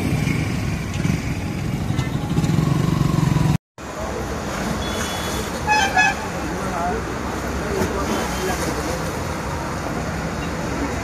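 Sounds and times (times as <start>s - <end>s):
road noise: 0.0s - 11.0s
traffic noise: 0.0s - 11.0s.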